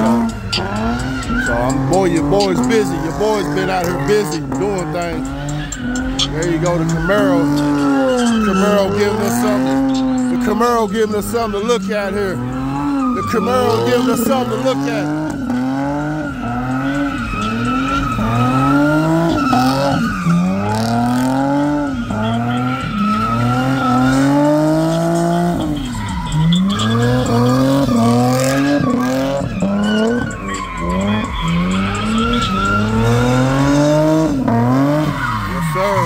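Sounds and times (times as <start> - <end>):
car engine revving: 0.0 - 36.0
tyres screeching: 0.0 - 36.0.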